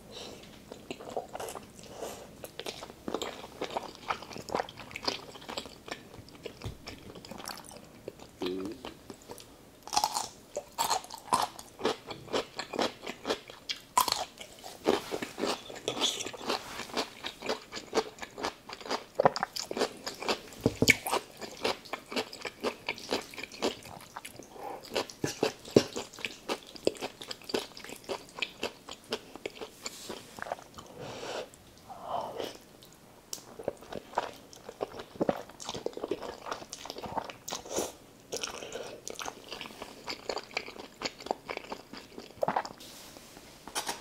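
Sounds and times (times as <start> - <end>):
crunchy chewing of a pickle: 0.7 - 31.6, 32.4 - 42.8.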